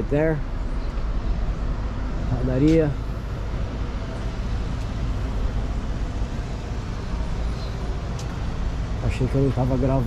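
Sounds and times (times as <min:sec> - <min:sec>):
city street traffic rumble: 0:00.0 - 0:10.0.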